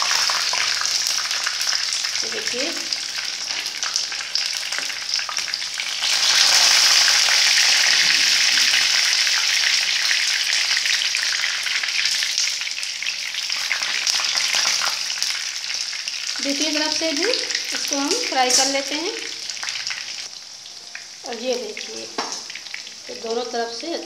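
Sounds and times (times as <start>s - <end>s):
fritters deep-frying sizzle: 0.0s - 24.0s.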